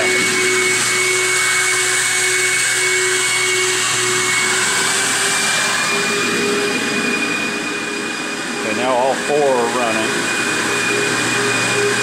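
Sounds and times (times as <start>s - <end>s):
blower motors whining: 0.0s - 12.0s.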